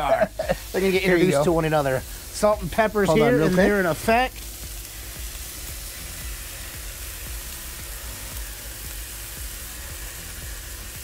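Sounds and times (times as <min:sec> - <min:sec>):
background music: 0:00.0 - 0:11.0
meat sizzling on a griddle: 0:00.0 - 0:11.0.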